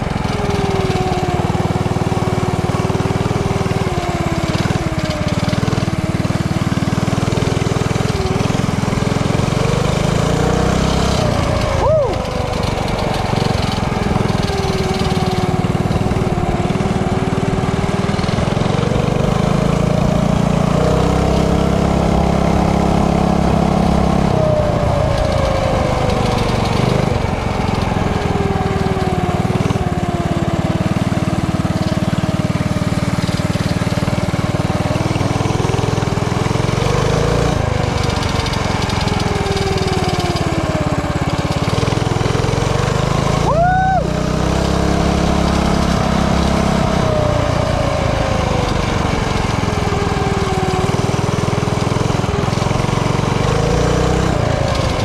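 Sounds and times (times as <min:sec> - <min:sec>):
mini bike engine running: 0:00.0 - 0:55.0.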